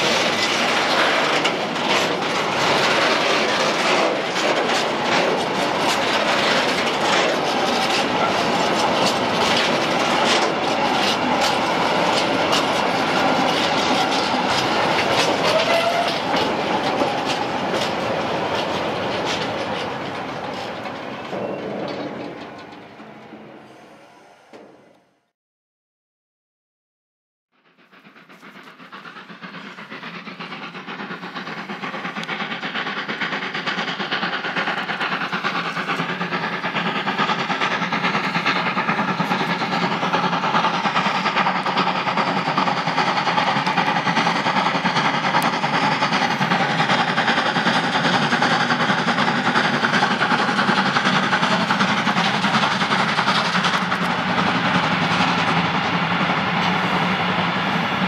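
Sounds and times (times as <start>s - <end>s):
steam freight train passing: 0.0s - 25.2s, 27.6s - 58.0s.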